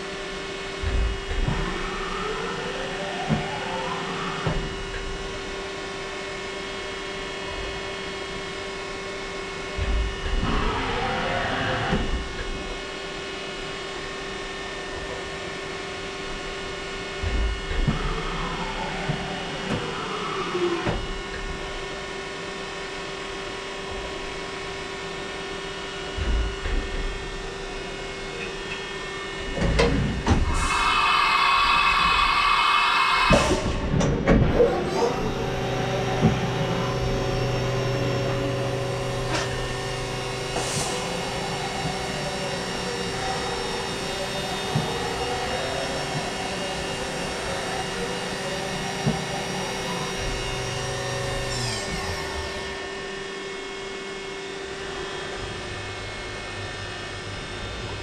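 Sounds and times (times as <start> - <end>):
machine steady hum: 0.0 - 58.0.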